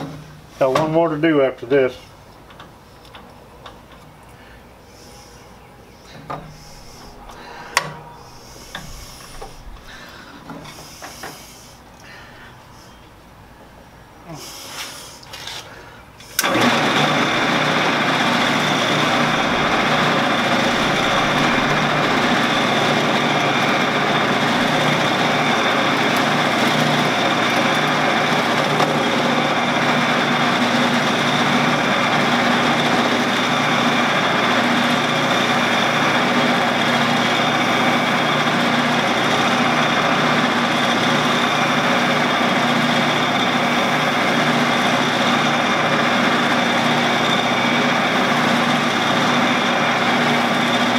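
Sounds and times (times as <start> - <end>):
motor humming and whining: 5.0 - 12.0, 16.2 - 50.9.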